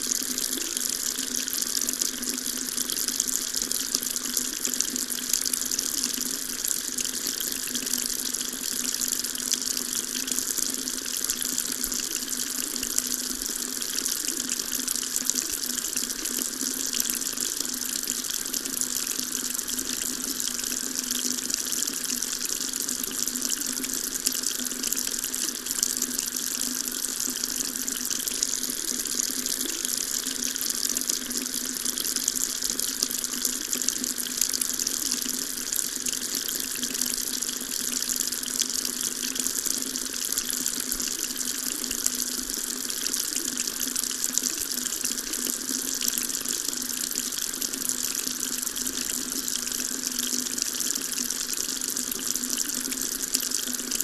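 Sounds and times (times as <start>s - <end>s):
tap water running into a sink: 0.0s - 54.0s.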